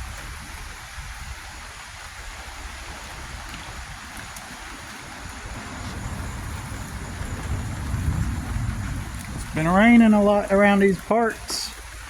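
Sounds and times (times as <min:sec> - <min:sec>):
rain hissing: 0:00.0 - 0:12.0
wind rumble on microphone: 0:00.0 - 0:12.0.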